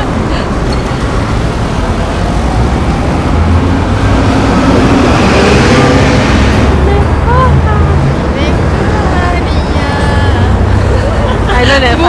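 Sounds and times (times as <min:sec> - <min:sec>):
bus engine passing: 0:00.0 - 0:12.0
city street traffic: 0:00.0 - 0:12.0.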